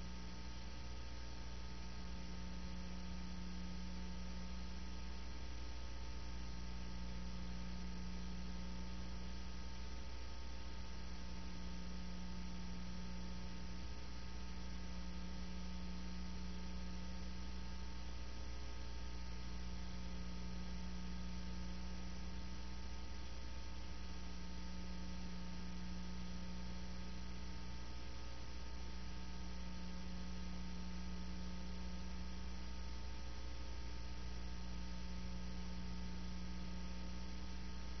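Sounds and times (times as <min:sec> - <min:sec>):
electrical mains hum: 0:00.0 - 0:38.0.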